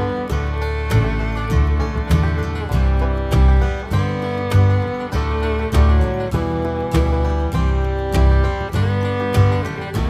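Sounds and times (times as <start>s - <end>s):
guitar tune with steady beat: 0.0s - 10.0s
low bass line: 0.0s - 10.0s.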